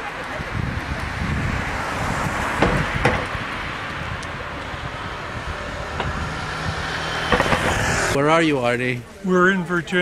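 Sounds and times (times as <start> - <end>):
wind buffeting microphone: 0.0 - 8.2
traffic noise: 0.0 - 10.0.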